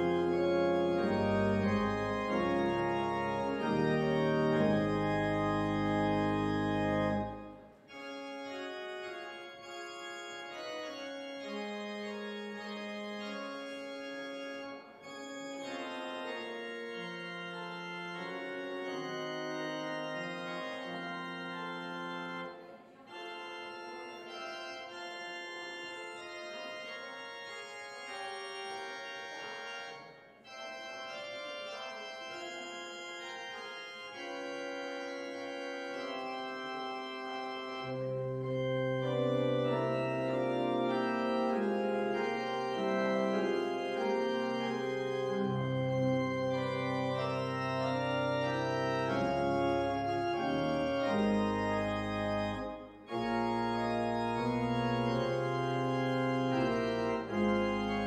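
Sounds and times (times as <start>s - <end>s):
church pipe organ chords: 0.0s - 58.0s.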